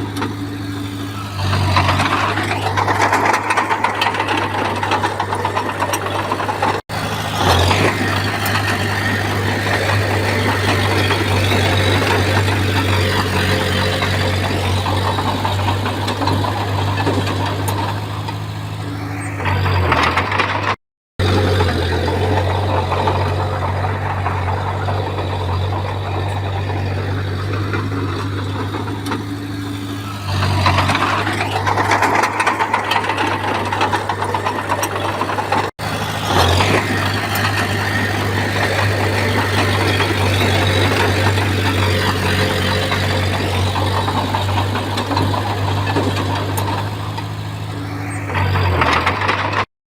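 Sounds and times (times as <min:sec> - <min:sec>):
bulldozer diesel engine running: 0:00.0 - 0:49.7.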